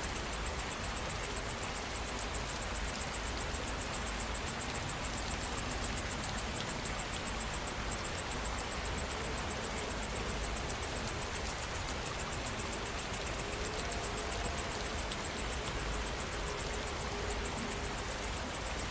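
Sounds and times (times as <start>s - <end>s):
insect chirping high-pitched: 0.0s - 18.9s
steady rain falling: 0.0s - 18.9s.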